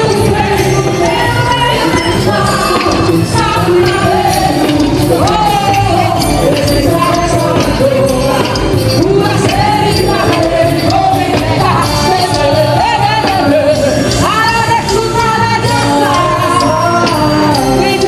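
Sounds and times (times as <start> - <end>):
band playing with steady beat: 0.0 - 18.0
person singing: 0.0 - 18.0.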